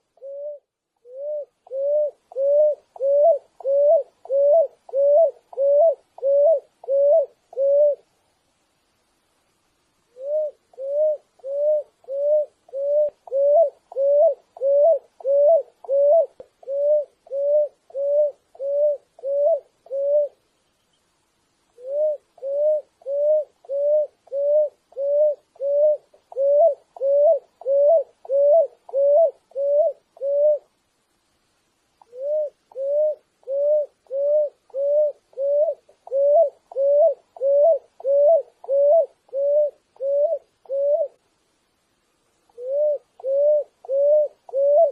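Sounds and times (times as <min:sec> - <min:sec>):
dove cooing: 0:00.0 - 0:08.1, 0:10.1 - 0:20.4, 0:21.8 - 0:30.7, 0:32.0 - 0:41.2, 0:42.5 - 0:44.9.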